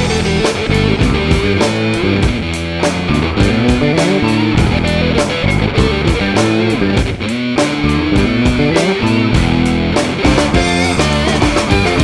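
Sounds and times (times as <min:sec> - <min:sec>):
guitar music with drum beat: 0:00.0 - 0:12.0.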